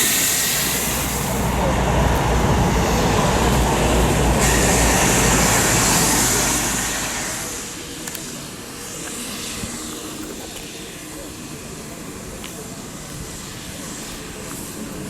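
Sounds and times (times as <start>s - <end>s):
train passing rumble: 0.0s - 15.0s.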